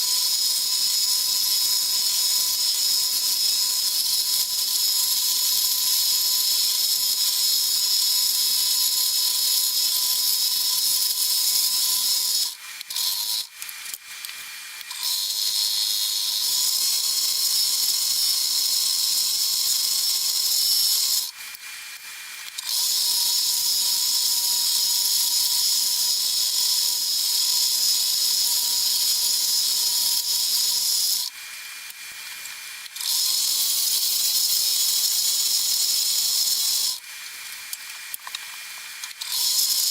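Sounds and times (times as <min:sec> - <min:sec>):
scroll saw cutting: 0:00.0 - 0:39.9.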